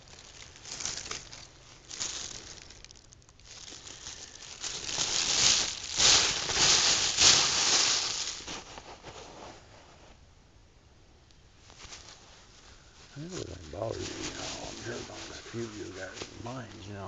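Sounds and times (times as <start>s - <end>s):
plastic bag crinkling: 0.0s - 9.2s, 11.8s - 17.0s.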